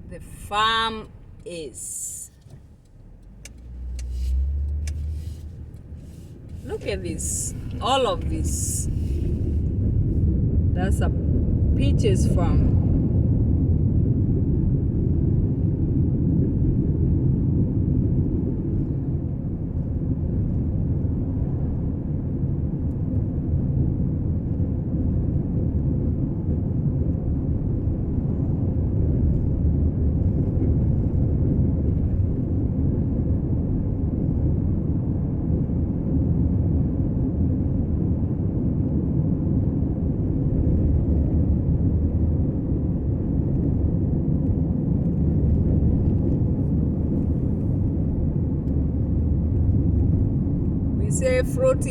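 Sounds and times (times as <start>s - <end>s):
car interior road rumble: 0.0s - 51.9s.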